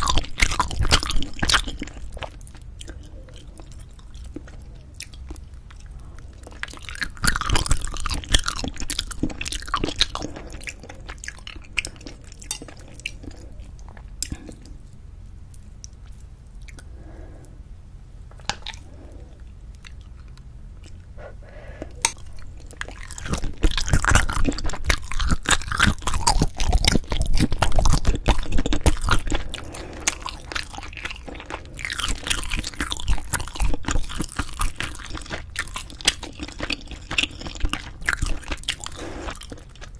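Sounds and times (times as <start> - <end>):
close chewing and biting food: 0.0 - 14.8, 21.8 - 39.9.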